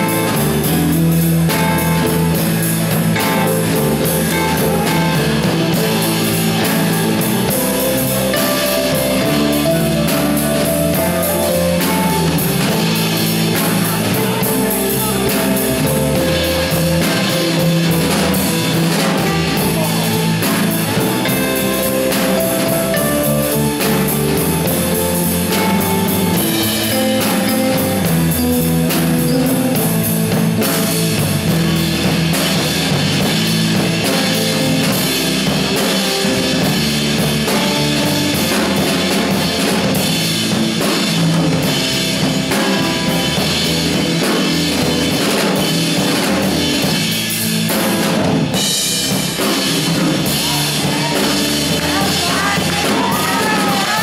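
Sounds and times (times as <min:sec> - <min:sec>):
live band playing: 0:00.0 - 0:54.0.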